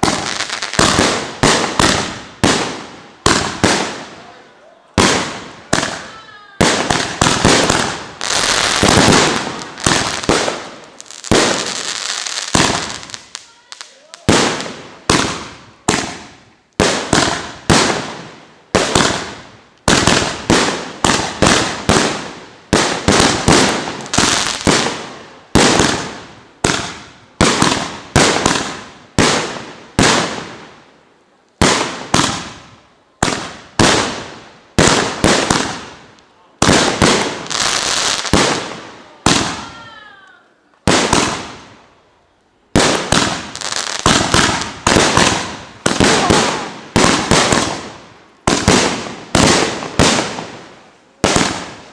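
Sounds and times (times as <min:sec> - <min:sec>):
firework crackle: 0:00.0 - 0:30.8, 0:31.5 - 0:42.0, 0:42.6 - 0:51.9.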